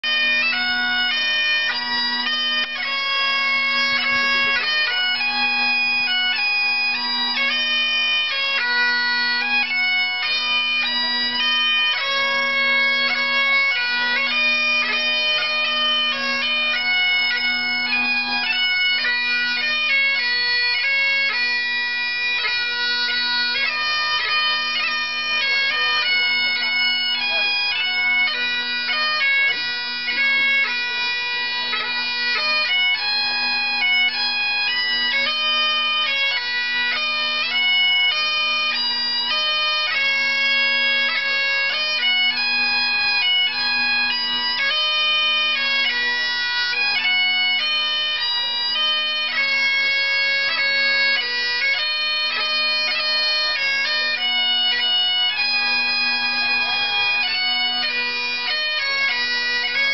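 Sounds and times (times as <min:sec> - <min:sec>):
bagpipe playing: 0:00.0 - 0:59.9.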